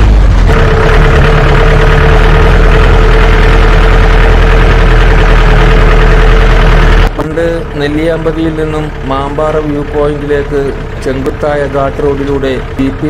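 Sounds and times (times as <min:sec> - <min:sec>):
jeep engine running: 0:00.0 - 0:13.0
steady whine: 0:00.0 - 0:13.0.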